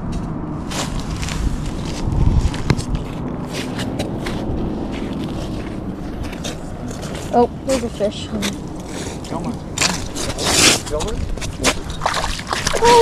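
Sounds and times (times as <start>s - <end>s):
wind rumble on microphone: 0.0s - 13.0s
footsteps crunching on snow: 0.6s - 13.0s.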